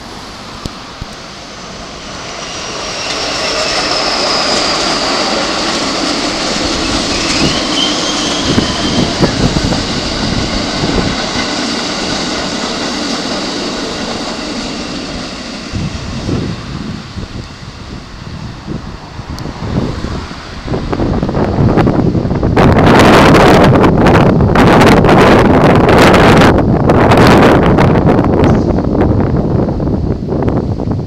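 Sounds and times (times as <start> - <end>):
electric train passing: 0.0 - 31.0
high thin whine: 0.0 - 31.0.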